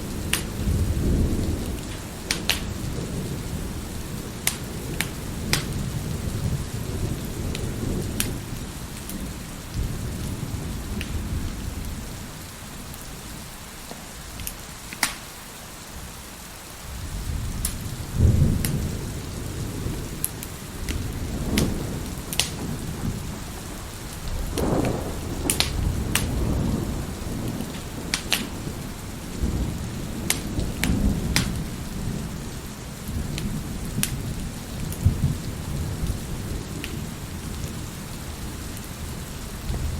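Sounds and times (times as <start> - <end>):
rolling thunder: 0.0 - 13.3, 16.9 - 39.9
wood fire crackling: 0.0 - 16.2, 17.6 - 39.9
steady rain: 0.0 - 39.9.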